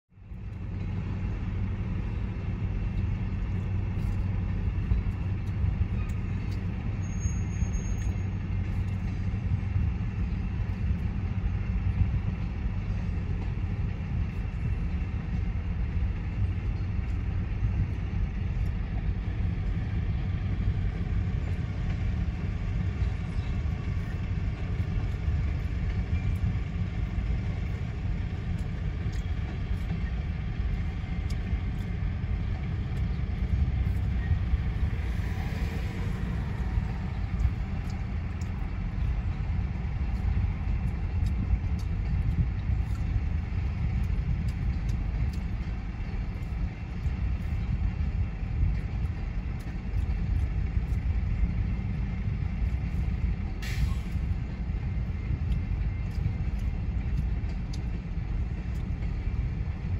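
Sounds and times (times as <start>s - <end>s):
freight train rumbling: 0.1s - 59.9s.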